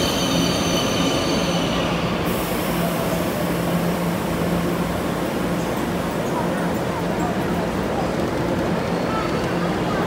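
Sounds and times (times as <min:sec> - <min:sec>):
train rumbling with low hum: 0:00.0 - 0:10.0.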